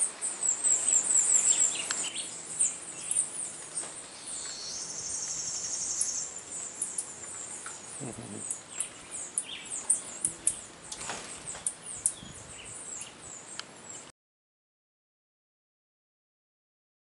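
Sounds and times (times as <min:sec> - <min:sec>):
hummingbirds chirping: 0:00.0 - 0:14.1.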